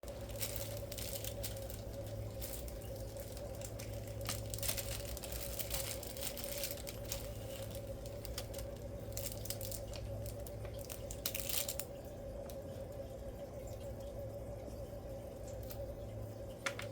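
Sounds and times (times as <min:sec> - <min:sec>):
steady hum: 0:00.0 - 0:16.9.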